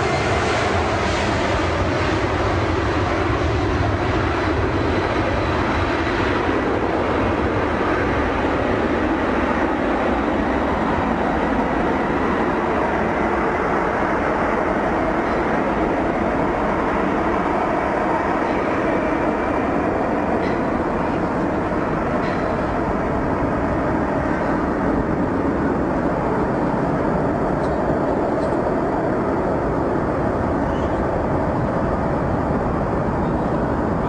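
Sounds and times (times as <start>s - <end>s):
jet engines at takeoff: 0.0s - 34.0s.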